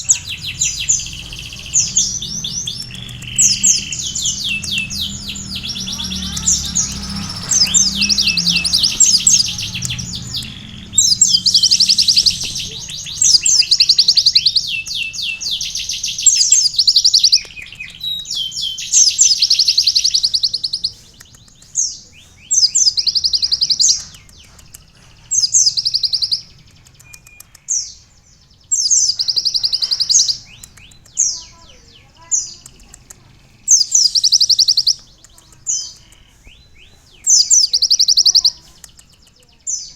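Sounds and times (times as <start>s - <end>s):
sunbird singing trills: 0.0s - 39.9s.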